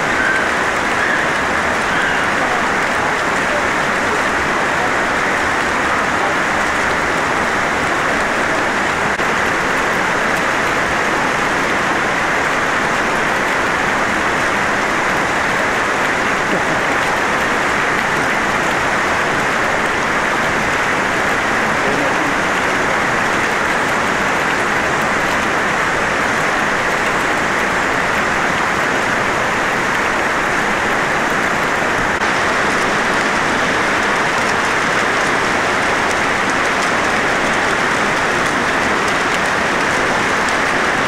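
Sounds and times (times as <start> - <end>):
water rushing: 0.0 - 41.0.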